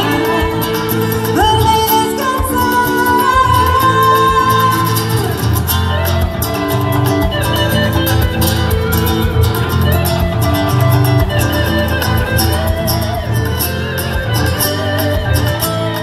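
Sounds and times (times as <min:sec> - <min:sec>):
acoustic guitar strumming: 0:00.0 - 0:16.0
electric guitar playing: 0:00.0 - 0:16.0.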